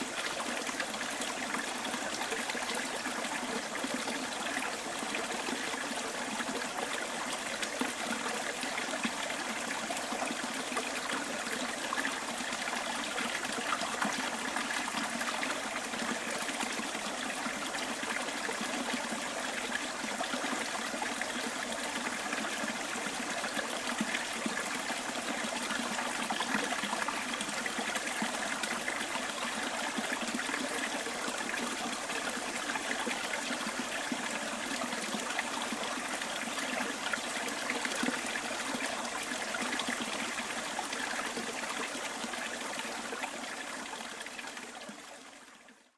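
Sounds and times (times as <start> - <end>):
stream trickling over stones: 0.0 - 45.9.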